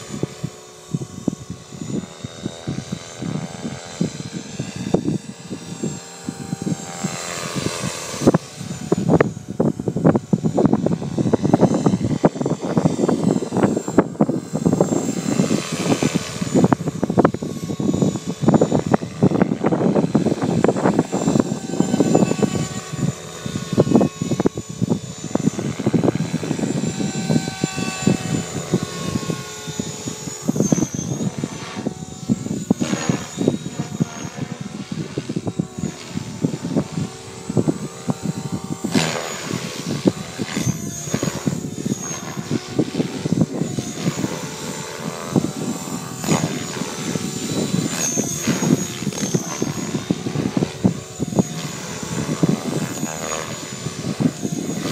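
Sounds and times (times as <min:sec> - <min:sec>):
model helicopter motor and rotors: 0:00.0 - 0:54.9.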